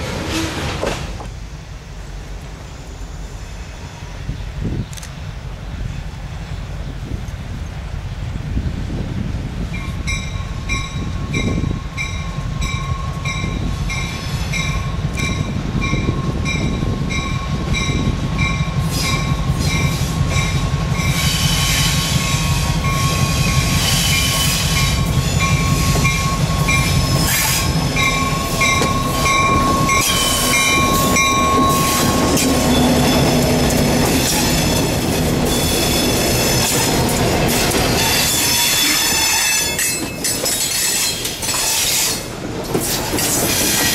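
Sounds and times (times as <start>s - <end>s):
train wheels clattering and squealing: 0.0s - 1.4s, 9.7s - 43.9s
diesel locomotive engines rumbling: 0.0s - 43.9s.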